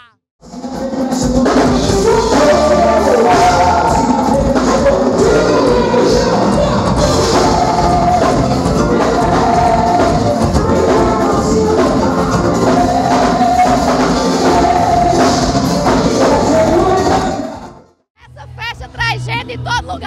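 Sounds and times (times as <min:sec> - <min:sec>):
person singing: 0:00.0 - 0:20.0
drum and percussion beat: 0:00.4 - 0:17.6.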